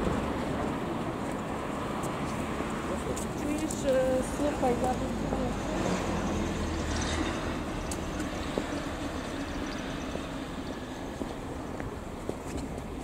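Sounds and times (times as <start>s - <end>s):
vehicle road noise: 0.0s - 13.0s.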